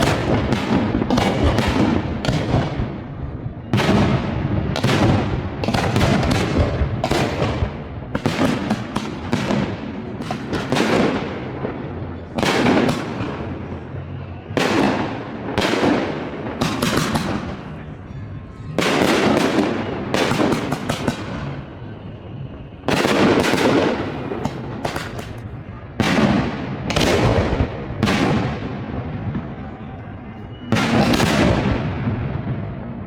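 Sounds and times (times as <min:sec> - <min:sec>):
fireworks bangs with echoes: 0:00.0 - 0:33.0.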